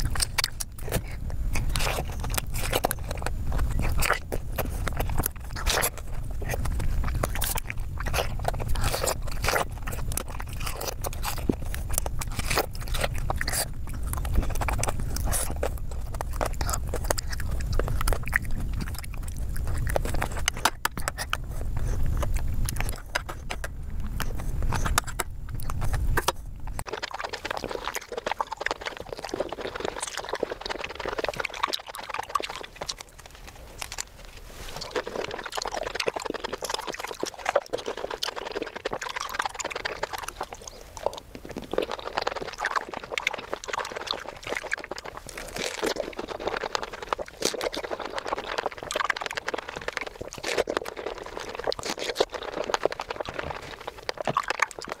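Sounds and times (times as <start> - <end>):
crisp bites of fresh fruit: 0.0 - 55.0
wet chewing and mouth clicks: 0.0 - 55.0.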